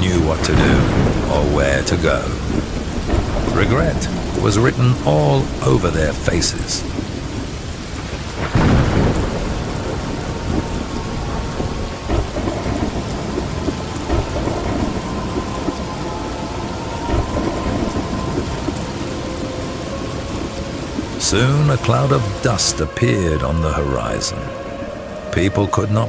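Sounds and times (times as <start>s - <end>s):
heavy rain: 0.0s - 26.0s
rolling thunder rumbles: 0.0s - 26.0s
thunderclap: 0.0s - 26.0s.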